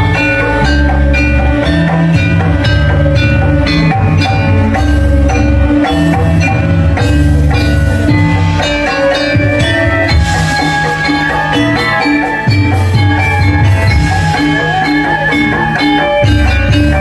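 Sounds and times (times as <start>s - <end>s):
bronze metallophones ringing: 0.0s - 17.0s
drums: 0.0s - 17.0s.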